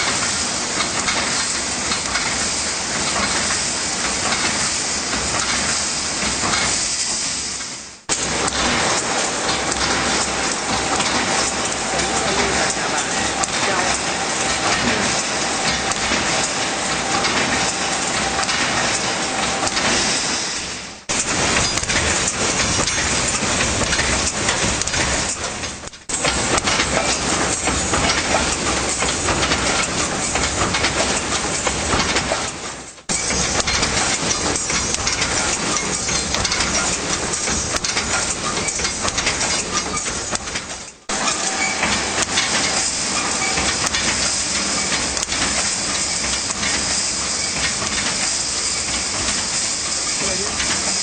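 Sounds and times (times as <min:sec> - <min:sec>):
wire mesh machine clattering: 0:08.1 - 0:20.0, 0:21.2 - 0:51.0.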